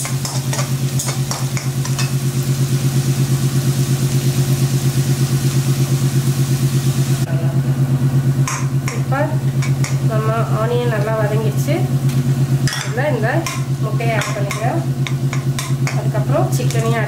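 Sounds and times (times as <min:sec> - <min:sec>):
low pulsing hum: 0:00.0 - 0:17.0
vegetables sizzling in oil: 0:00.0 - 0:17.0.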